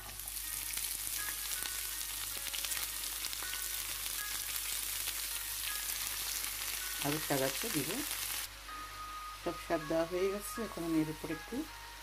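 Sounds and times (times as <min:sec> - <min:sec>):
greens sizzling in hot oil: 0:00.0 - 0:12.0.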